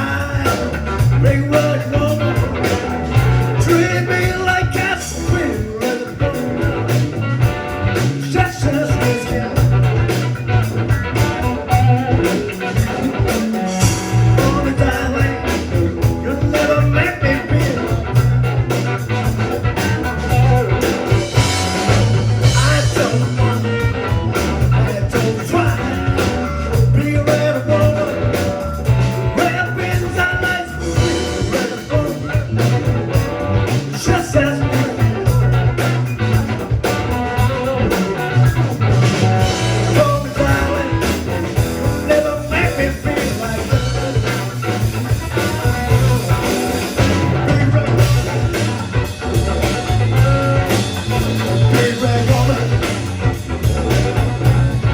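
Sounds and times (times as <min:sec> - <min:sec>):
bass line: 0:00.0 - 0:54.9
blues-rock band music: 0:00.0 - 0:54.9
drums: 0:00.0 - 0:54.9
electric guitar: 0:00.0 - 0:54.9.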